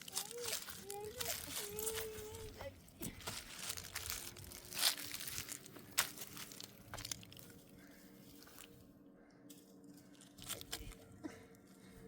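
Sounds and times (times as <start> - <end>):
crinkling and crackling: 0.0 - 8.9, 9.9 - 11.9.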